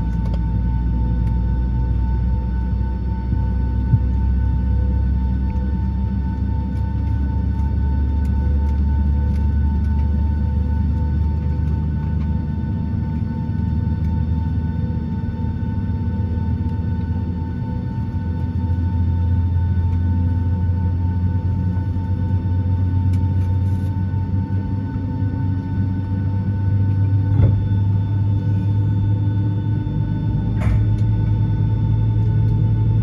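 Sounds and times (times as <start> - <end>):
aircraft cabin ventilation drone: 0.0 - 33.0.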